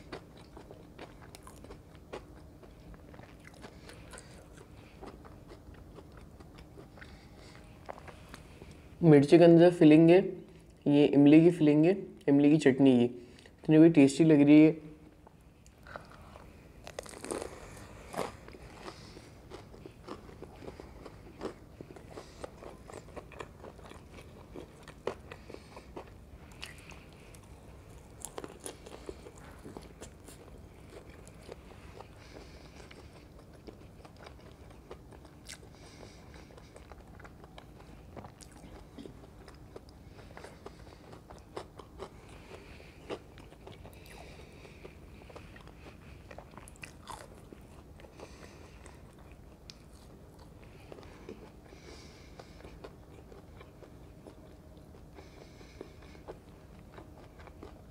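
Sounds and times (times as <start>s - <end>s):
crunching and chewing: 0.0s - 9.0s, 15.0s - 57.9s.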